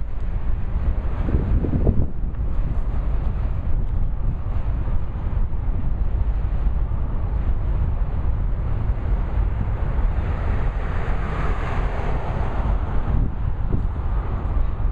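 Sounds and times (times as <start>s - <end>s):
freight train rumbling past: 0.0s - 14.9s
wind buffeting microphone: 0.0s - 14.9s.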